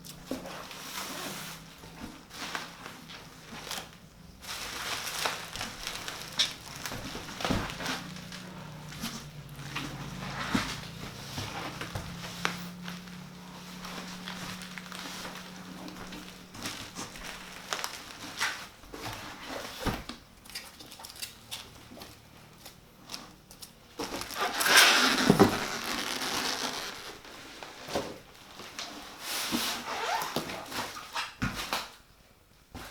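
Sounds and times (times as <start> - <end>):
packaging crinkling and rustling: 0.3 - 32.0.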